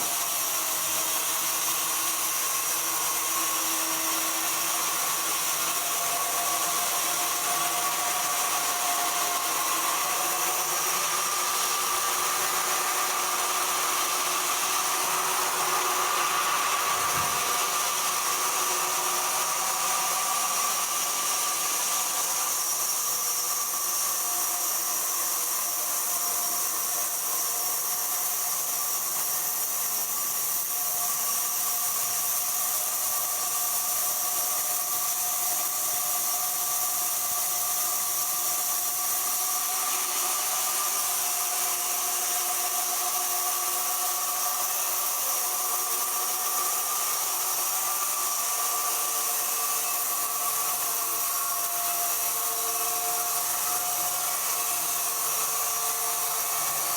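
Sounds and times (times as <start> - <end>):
sawmill machinery running: 0.0 - 56.9.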